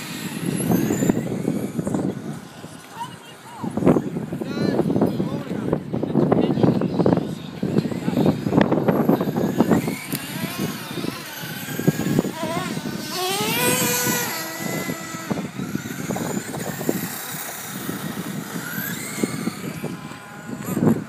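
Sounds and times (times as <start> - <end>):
toy car motor whining: 0.0 - 4.2, 6.8 - 21.0.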